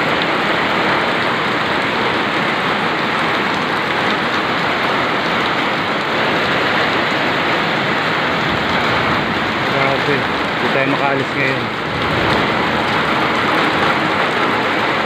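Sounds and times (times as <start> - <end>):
heavy rain on a metal roof: 0.0 - 15.0.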